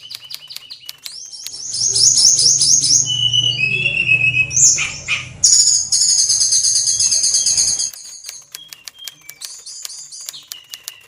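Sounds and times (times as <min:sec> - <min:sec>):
bird singing high trills: 0:00.0 - 0:11.0.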